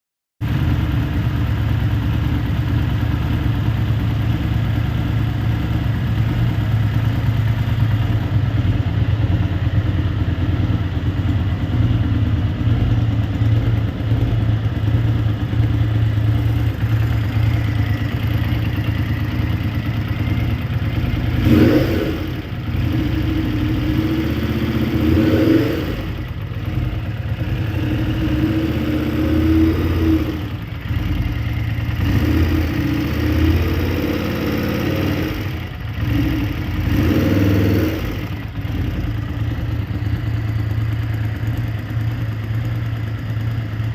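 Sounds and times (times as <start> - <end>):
motorcycle engine idling and revving: 0.4 - 43.9.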